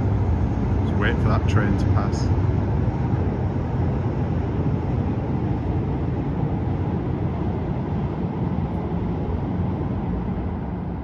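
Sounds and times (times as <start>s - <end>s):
passing train rumble: 0.0s - 11.0s.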